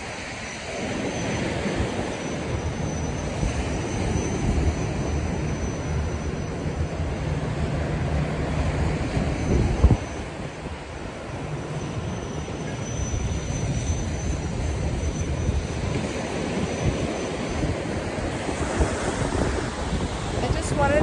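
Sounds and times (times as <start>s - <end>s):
ocean surf: 0.0s - 21.0s
wind buffeting microphone: 0.0s - 21.0s.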